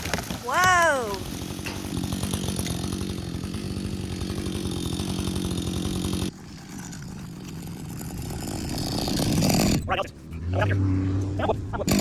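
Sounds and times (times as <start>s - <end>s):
chainsaw engine revving: 0.8s - 9.9s, 10.5s - 12.0s.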